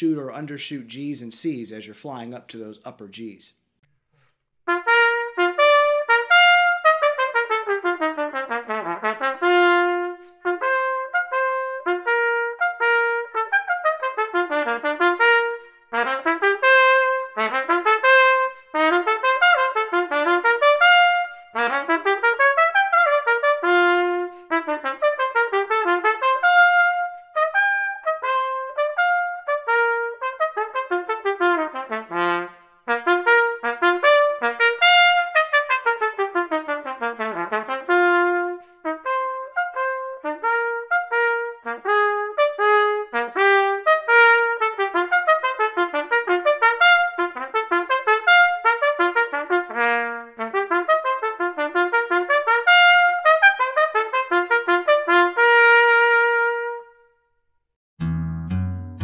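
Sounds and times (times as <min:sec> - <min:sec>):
solo trumpet playing fast runs: 0:04.7 - 0:57.0.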